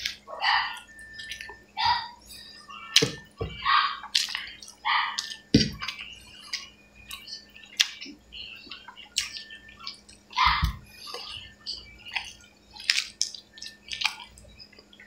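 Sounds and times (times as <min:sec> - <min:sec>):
wet chewing and lip-smacking: 0:00.0 - 0:02.1, 0:04.0 - 0:15.0.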